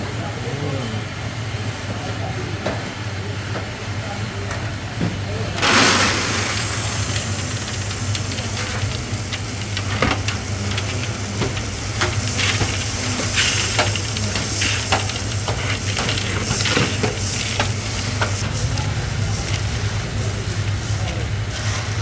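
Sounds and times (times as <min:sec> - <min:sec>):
machinery humming: 0:00.0 - 0:22.0
constant hiss: 0:04.2 - 0:22.0.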